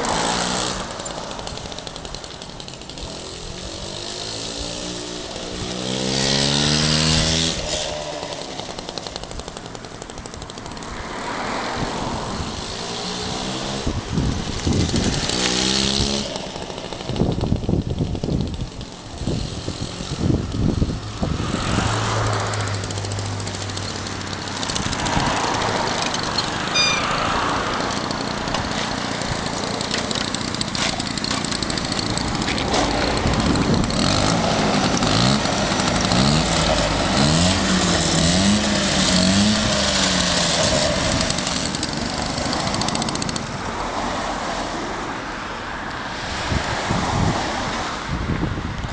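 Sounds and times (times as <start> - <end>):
scooter engine revving: 0.0 - 44.4.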